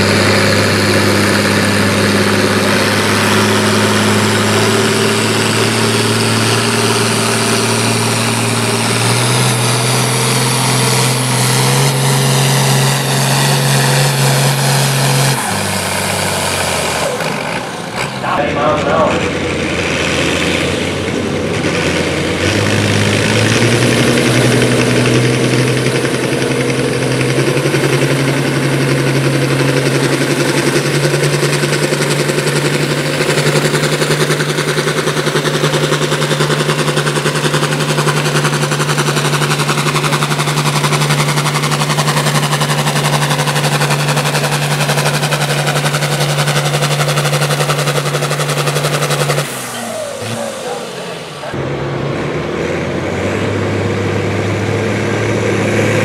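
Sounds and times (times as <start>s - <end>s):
rattling exhaust: 0.0s - 56.0s
tractor engine revving: 0.0s - 56.0s.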